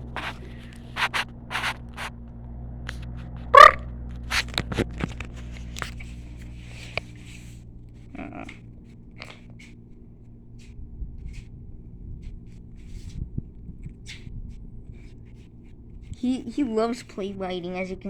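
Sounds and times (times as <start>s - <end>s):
puppy chewing and scraping: 0.0s - 18.0s.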